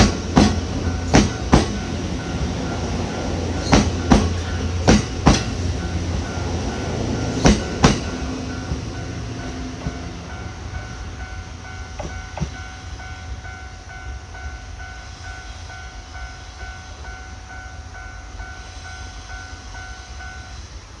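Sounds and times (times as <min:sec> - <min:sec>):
level-crossing warning bell: 0:00.0 - 0:21.0
train rumbling past: 0:00.0 - 0:21.0.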